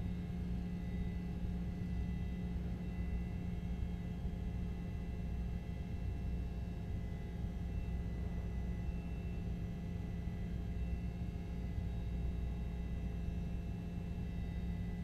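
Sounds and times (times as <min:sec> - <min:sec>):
faint constant tones: 0:00.0 - 0:15.0
steady low hum: 0:00.0 - 0:15.0.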